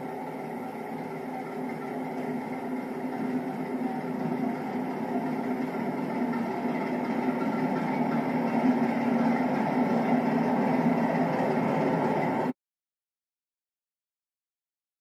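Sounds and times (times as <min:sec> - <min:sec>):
diesel locomotive engine running: 0:00.0 - 0:12.6.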